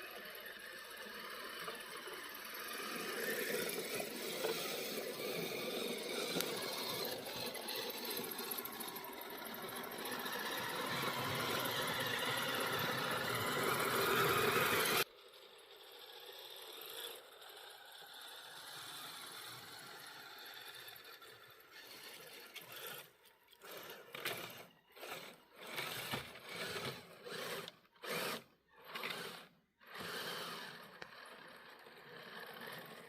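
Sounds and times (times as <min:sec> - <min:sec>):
electric motor whirring: 0:00.0 - 0:33.0.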